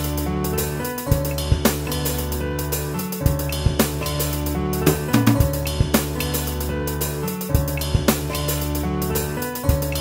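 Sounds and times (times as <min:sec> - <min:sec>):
drum kit with cymbal crashes: 0:00.0 - 0:10.0
held bass and chord notes: 0:00.0 - 0:10.0.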